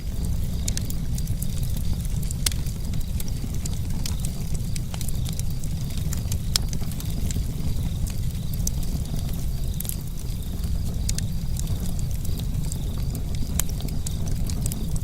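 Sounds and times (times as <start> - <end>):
burning wood crackling and popping: 0.0 - 15.0
campfire rumble: 0.0 - 15.0.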